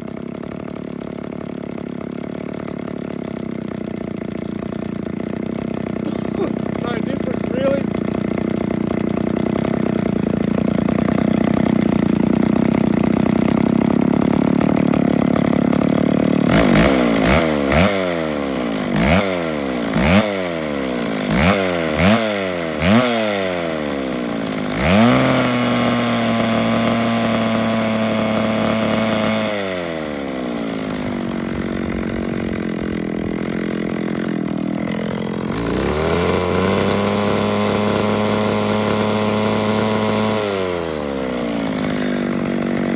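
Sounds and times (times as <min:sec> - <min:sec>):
chainsaw revving: 0:00.0 - 0:42.9.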